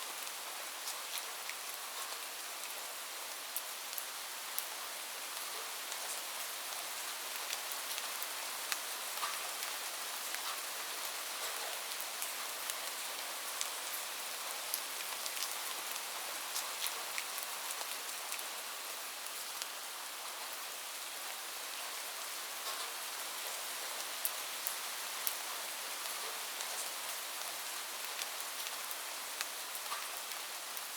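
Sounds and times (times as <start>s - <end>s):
light rain falling: 0.0s - 30.9s.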